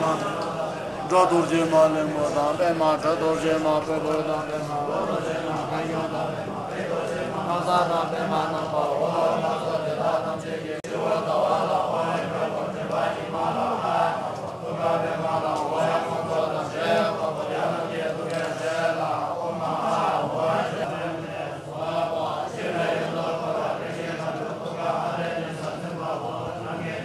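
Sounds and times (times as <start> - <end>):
monks chanting together: 0.0 - 27.0.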